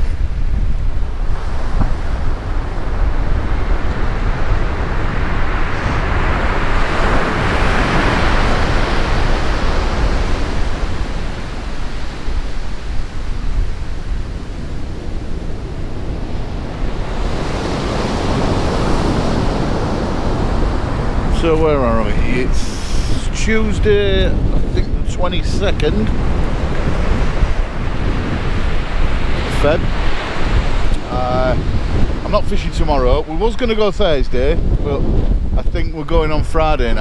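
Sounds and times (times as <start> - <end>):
surf breaking on sandy beach: 0.0 - 37.0
wind buffeting microphone: 0.0 - 37.0.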